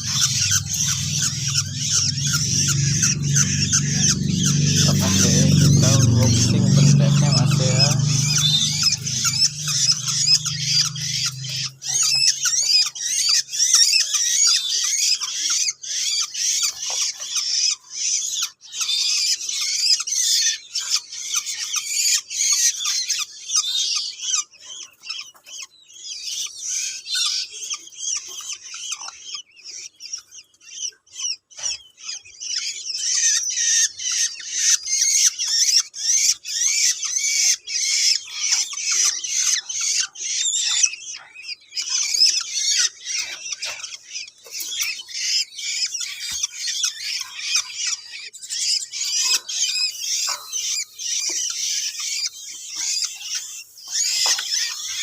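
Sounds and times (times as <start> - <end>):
nestlings begging chirps: 0.0 - 55.0.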